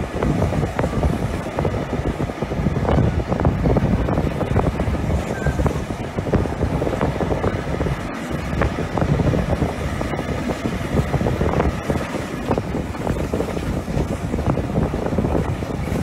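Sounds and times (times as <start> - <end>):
train coach rumble and rattle: 0.0 - 16.0
wind buffeting microphone: 0.0 - 16.0.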